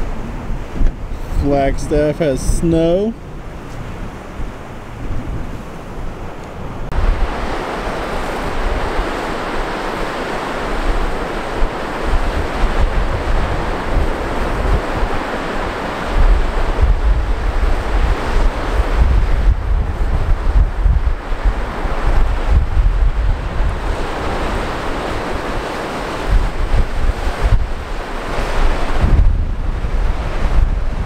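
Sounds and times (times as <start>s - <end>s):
waterfall rushing: 0.0s - 3.2s, 6.9s - 30.5s
wind buffeting microphone: 0.0s - 31.0s.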